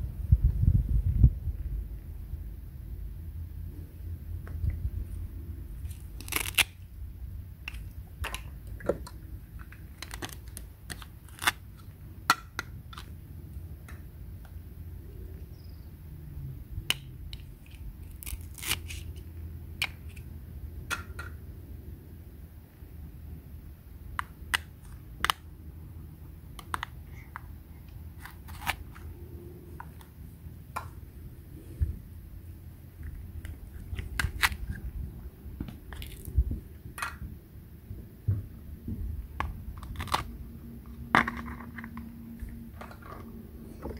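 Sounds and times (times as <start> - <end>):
low steady rumble: 0.0 - 43.9.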